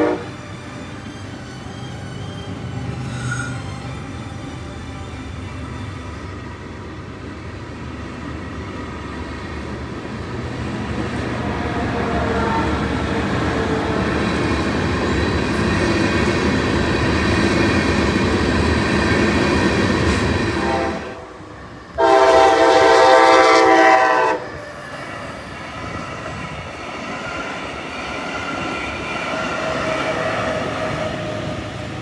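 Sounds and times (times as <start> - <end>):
freight train passing: 0.0 - 32.0
passenger train rolling past: 0.0 - 32.0.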